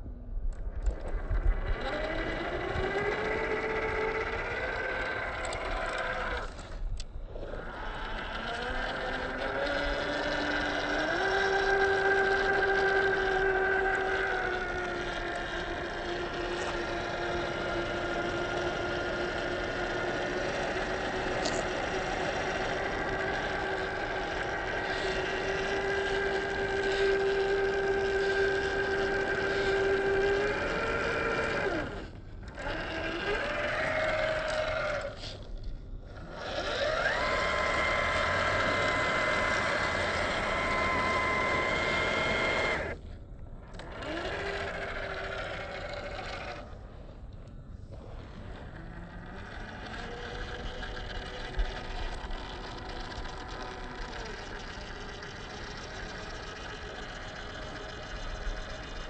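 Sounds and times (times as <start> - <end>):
electric motor whining: 0.5 - 59.0.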